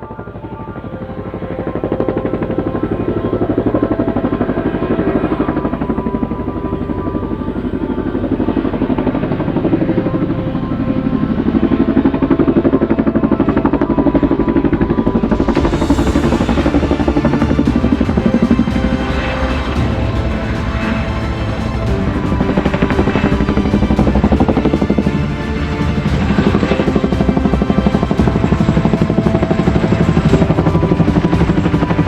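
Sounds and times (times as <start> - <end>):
helicopter rotor chop: 0.0 - 32.0.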